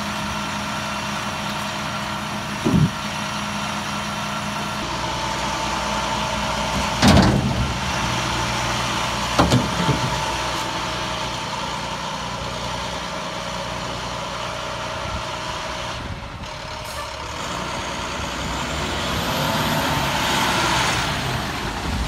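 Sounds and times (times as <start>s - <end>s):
diesel truck engine: 0.0s - 22.0s.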